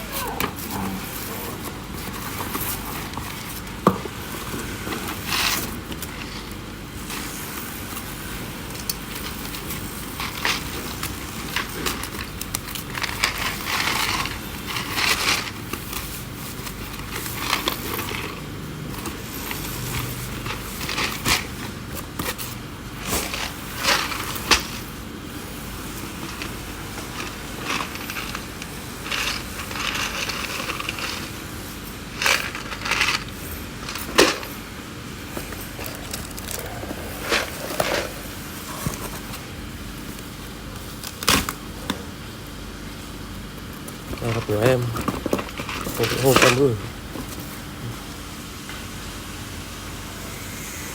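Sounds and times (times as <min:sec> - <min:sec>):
packaging rustling and crinkling: 0:00.0 - 0:42.3, 0:43.0 - 0:48.0.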